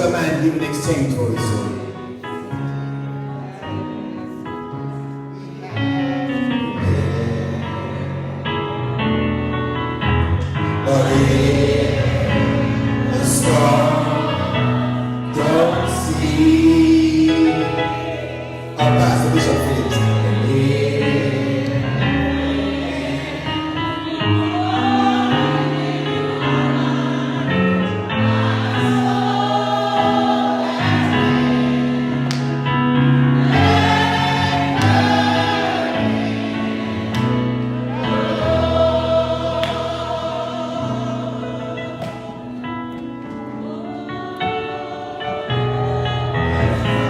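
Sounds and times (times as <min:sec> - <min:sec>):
gospel choir singing: 0:00.0 - 0:47.0
sustained organ accompaniment: 0:00.0 - 0:47.0.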